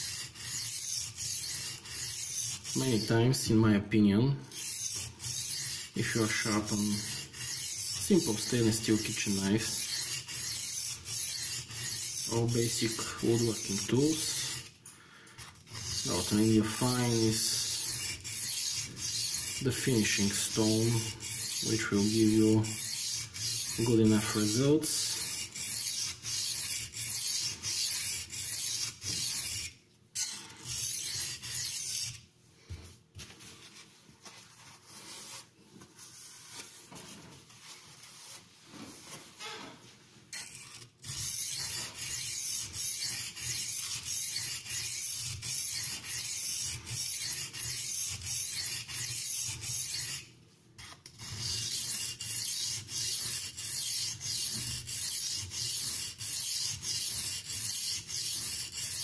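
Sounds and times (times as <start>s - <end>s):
knife scraping on oilstone: 0.0s - 3.4s, 4.5s - 32.2s, 34.2s - 59.0s.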